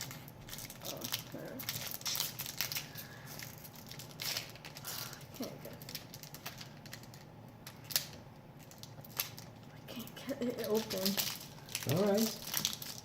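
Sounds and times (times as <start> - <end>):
wrapper crinkling: 0.0 - 13.0.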